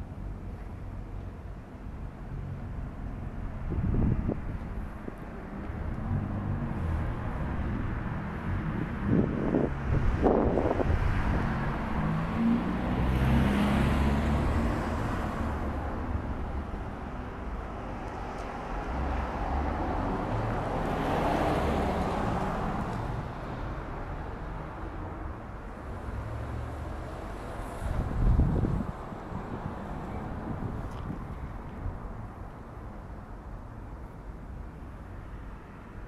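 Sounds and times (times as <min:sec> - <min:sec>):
cars passing: 0:02.3 - 0:36.0.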